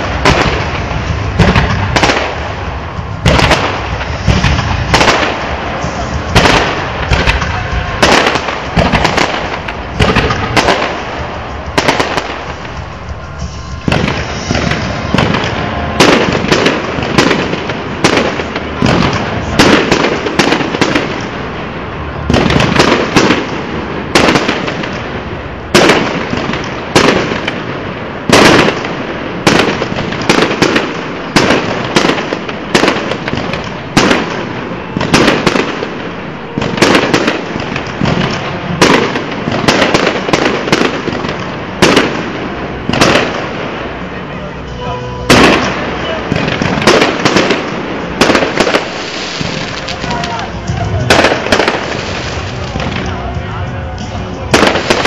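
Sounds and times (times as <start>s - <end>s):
fireworks bursting with loud bangs: 0.0s - 55.0s
fireworks crackling: 0.0s - 55.0s.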